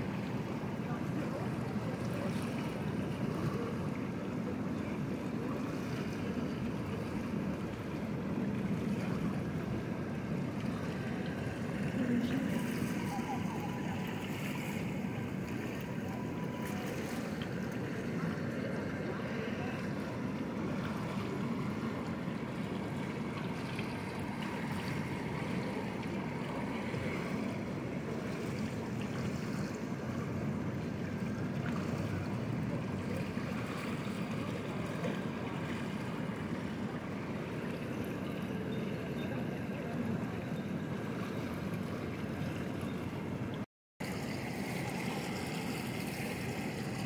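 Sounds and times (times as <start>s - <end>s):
water churning from pool jets: 0.0s - 47.0s.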